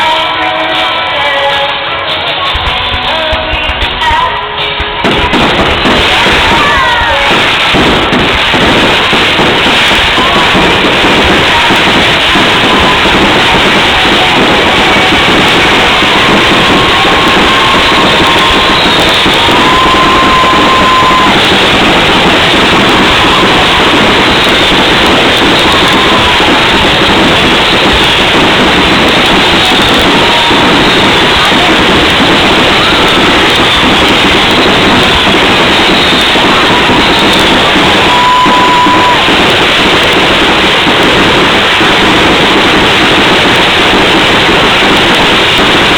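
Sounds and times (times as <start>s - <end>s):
fireworks barrage: 0.0s - 45.9s.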